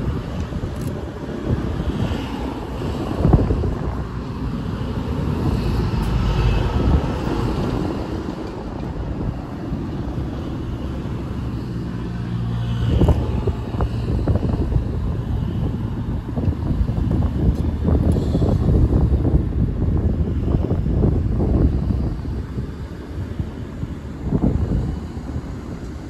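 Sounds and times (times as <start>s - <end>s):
vehicle engine hum: 0.0s - 26.0s
wind rumble on microphone: 0.0s - 26.0s.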